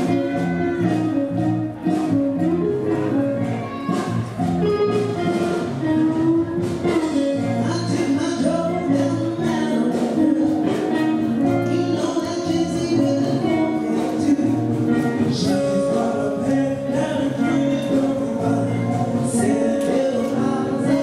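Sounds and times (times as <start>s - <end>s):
bass line: 0.0s - 21.0s
dance band playing: 0.0s - 21.0s
person singing: 0.0s - 21.0s.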